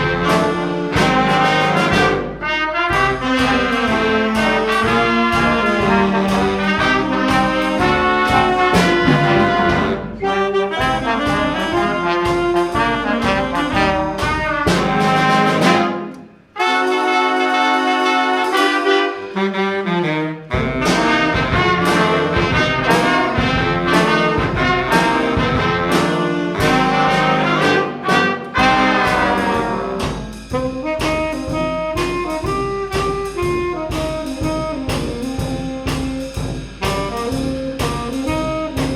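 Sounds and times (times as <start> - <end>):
band playing with brass: 0.0 - 38.9.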